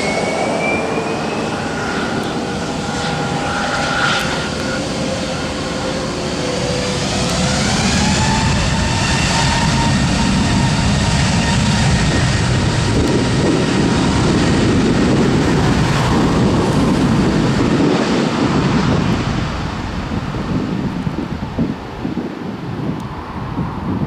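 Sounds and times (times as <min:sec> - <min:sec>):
thin engine whine: 0:00.0 - 0:19.7
jet engine roar: 0:00.0 - 0:24.0.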